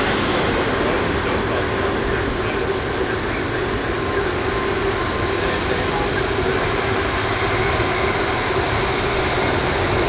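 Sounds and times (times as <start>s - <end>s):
jet engines running: 0.0s - 10.0s.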